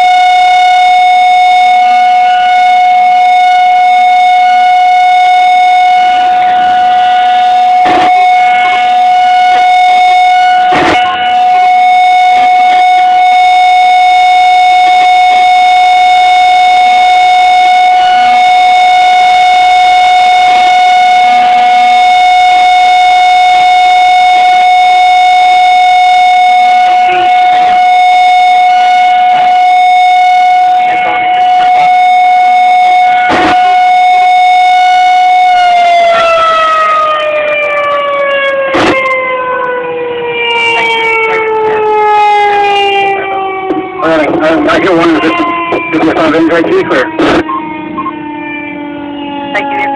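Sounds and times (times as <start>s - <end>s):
warning siren wailing: 0.0s - 49.9s.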